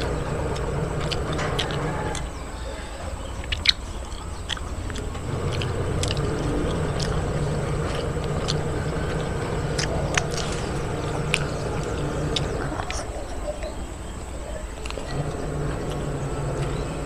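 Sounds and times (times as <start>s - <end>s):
person eating and chewing: 0.0s - 13.7s, 14.7s - 16.8s
low motor hum: 0.0s - 17.0s.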